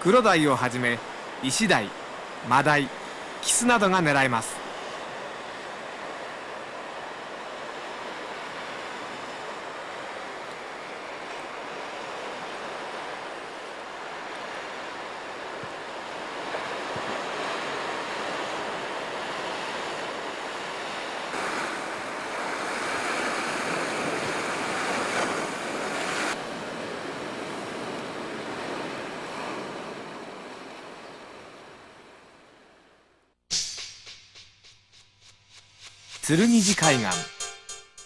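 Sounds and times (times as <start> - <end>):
surf breaking on rocky shore: 0.0 - 30.9.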